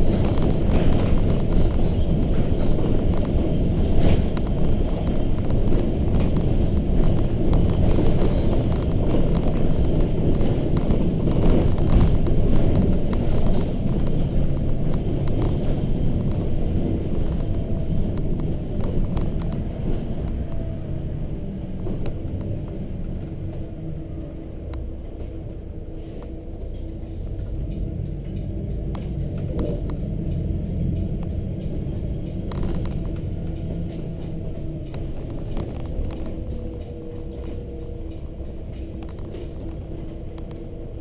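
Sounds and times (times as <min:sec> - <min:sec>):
bus diesel engine and road rumble: 0:00.0 - 0:41.0.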